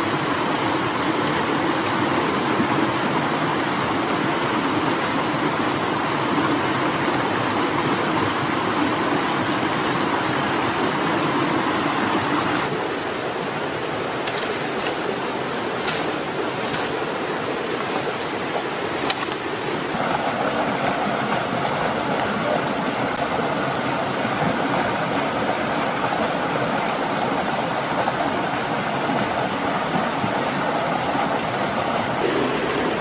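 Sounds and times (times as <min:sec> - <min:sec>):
stream and waterfall rushing: 0:00.0 - 0:33.0.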